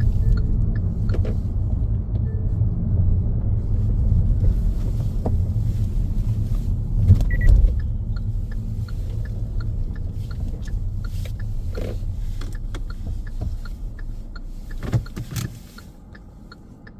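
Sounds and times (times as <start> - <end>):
road and engine rumble: 0.0 - 16.9
turn signal ticking: 0.0 - 16.9.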